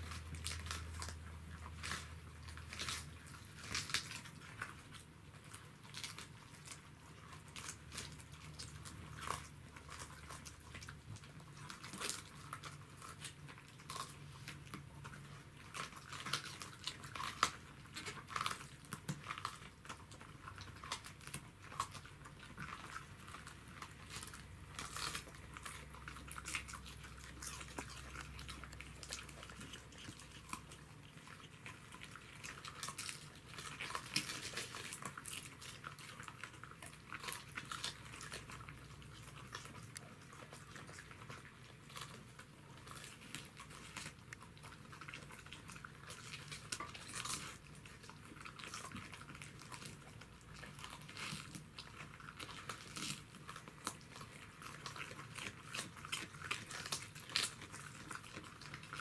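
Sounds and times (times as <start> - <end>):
dogs chewing cabbage leaves: 0.0 - 59.0.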